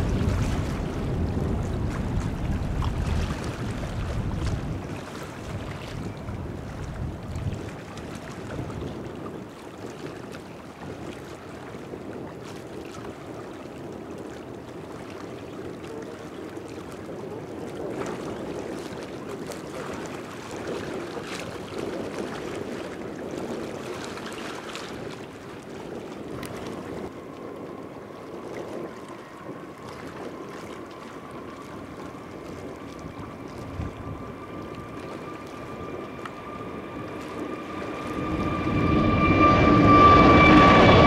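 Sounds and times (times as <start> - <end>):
distant jet engine rumble: 0.0 - 41.0.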